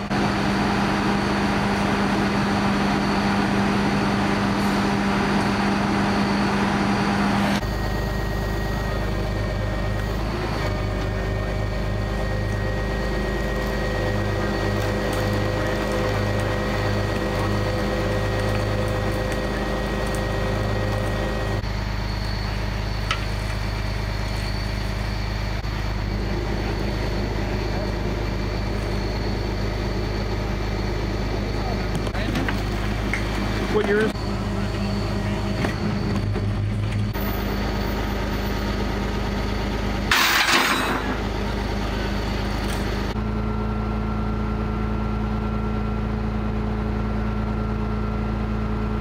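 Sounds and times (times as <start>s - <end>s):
vehicle engines idling: 0.0s - 49.0s.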